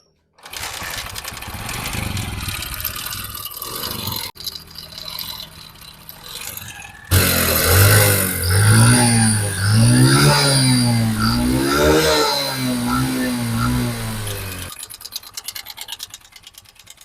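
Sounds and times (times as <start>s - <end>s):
motorcycle engine clattering: 0.4s - 17.0s
motorcycle engine revving: 0.5s - 14.9s.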